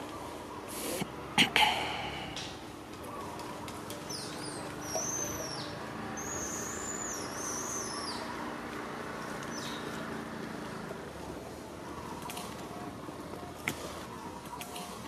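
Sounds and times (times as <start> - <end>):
steady outdoor hiss: 0.0 - 15.0
songbird singing: 1.6 - 15.0.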